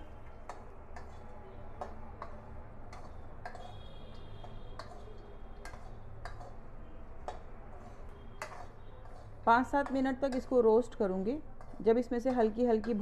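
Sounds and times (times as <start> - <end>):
metal spoon scraping metal pan: 2.2 - 13.0.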